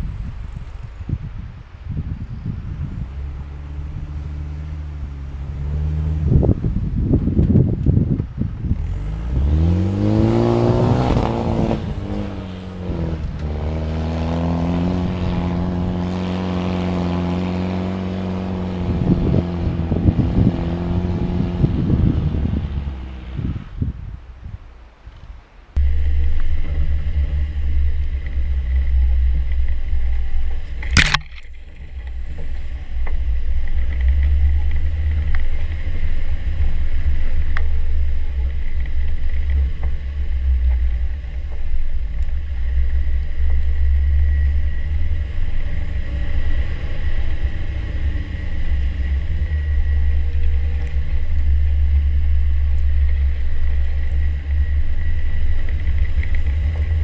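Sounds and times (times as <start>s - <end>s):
engine rumble: 0.0s - 57.0s.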